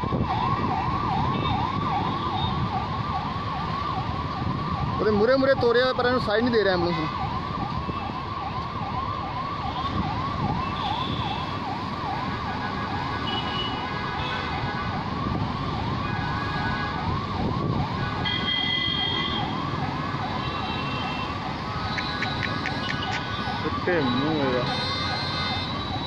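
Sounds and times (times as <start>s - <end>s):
ambulance siren yelping: 0.0s - 26.0s.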